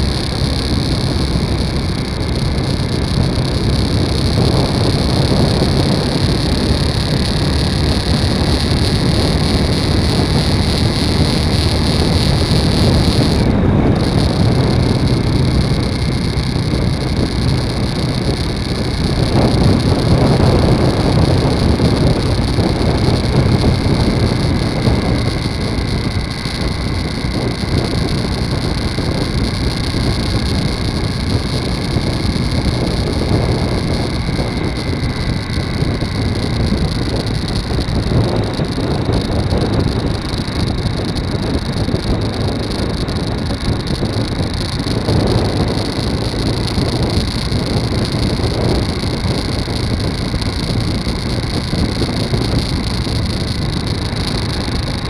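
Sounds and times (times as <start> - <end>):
motorcycle cruising: 0.0 - 55.0
wind noise on microphone: 0.0 - 55.0.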